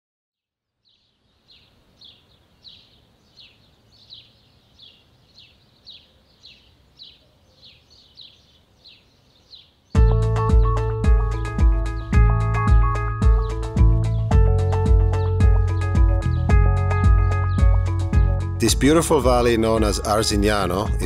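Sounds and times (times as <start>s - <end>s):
bird chirping: 0.7s - 10.4s, 11.3s - 21.0s.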